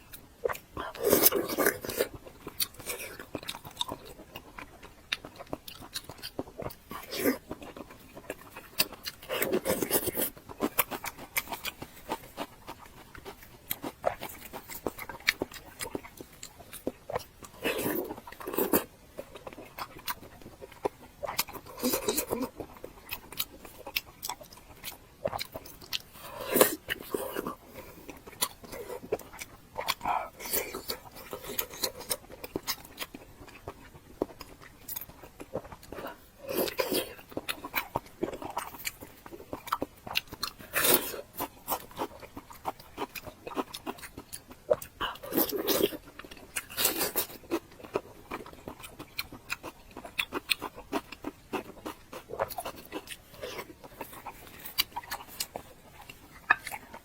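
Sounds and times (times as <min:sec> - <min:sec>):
chewing with wet mouth clicks: 0:00.0 - 0:57.0.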